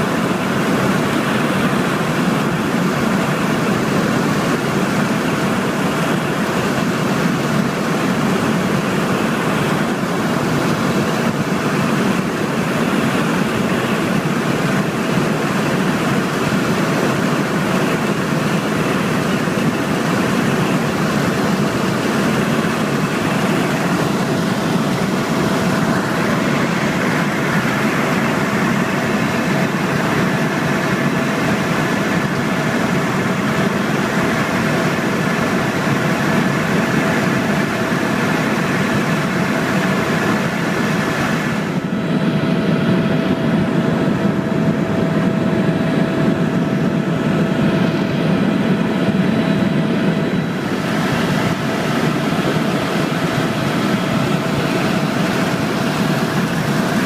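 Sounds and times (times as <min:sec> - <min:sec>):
helicopter drone: 0:00.0 - 0:57.0.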